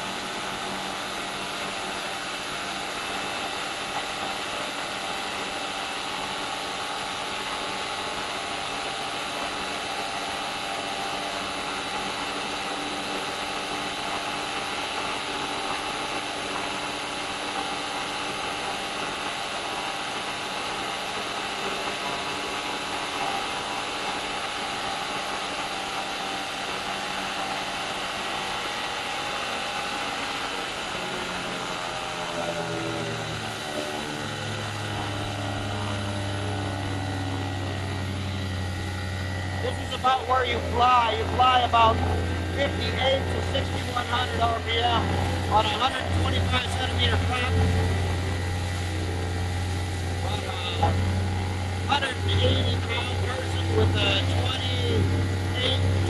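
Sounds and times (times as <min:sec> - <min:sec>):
paramotor engine running: 0:00.0 - 0:56.0.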